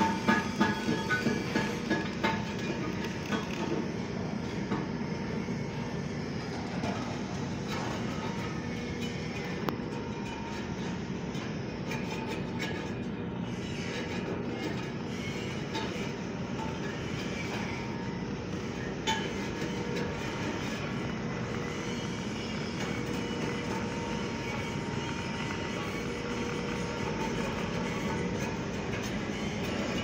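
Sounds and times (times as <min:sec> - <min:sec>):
workshop machinery rumble and hiss: 0:00.0 - 0:30.0.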